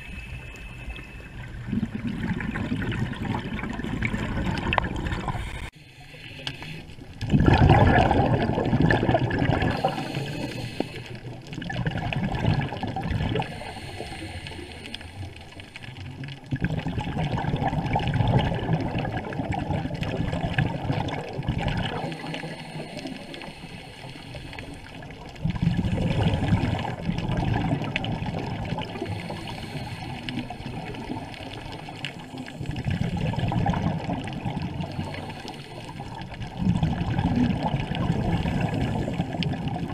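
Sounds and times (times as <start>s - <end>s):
underwater regulator bubbles gurgling: 0.0s - 39.9s.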